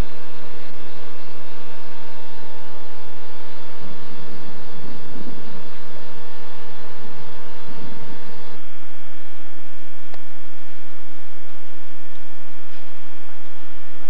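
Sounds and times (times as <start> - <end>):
train ventilation fans humming: 0.0 - 13.9.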